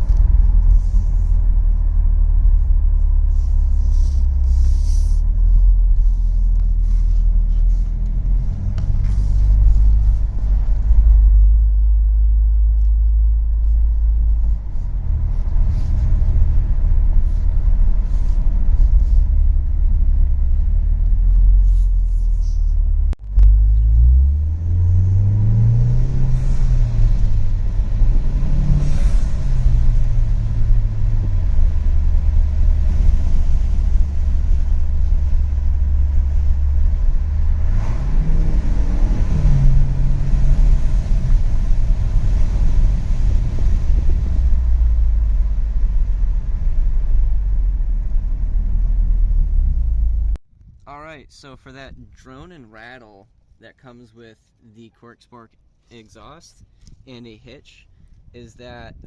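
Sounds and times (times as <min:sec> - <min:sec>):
car engine drone from cabin: 0:00.0 - 0:50.4.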